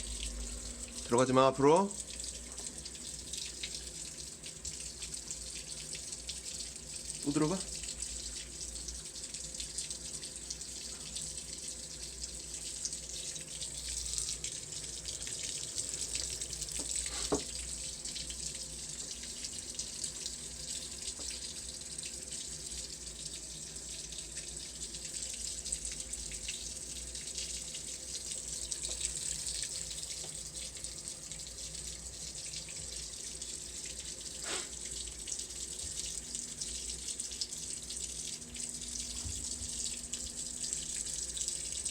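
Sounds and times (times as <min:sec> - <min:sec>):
water running in a stream: 0:00.0 - 0:41.9.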